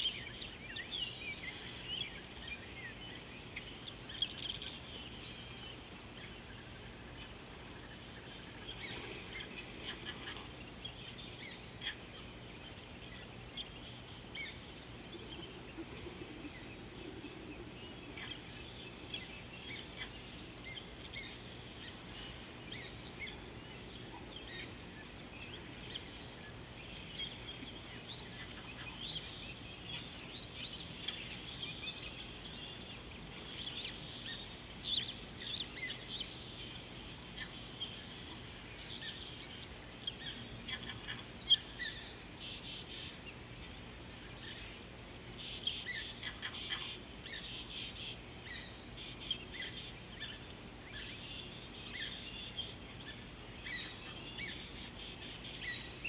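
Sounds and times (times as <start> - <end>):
outdoor background hiss: 0.0 - 56.0
wild birds calling and chirping: 0.0 - 56.0.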